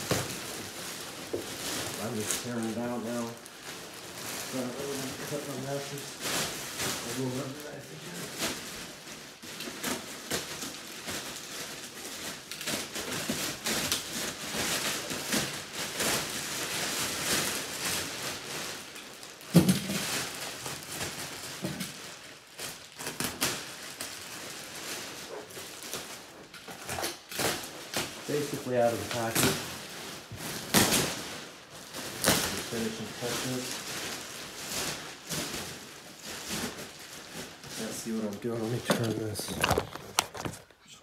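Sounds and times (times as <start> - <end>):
plastic wrap crinkling and tearing: 0.0 - 40.9.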